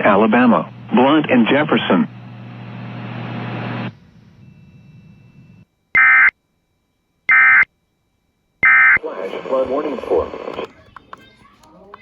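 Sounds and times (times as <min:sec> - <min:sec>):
radio static hiss with hum: 0:00.0 - 0:06.3, 0:08.6 - 0:12.0.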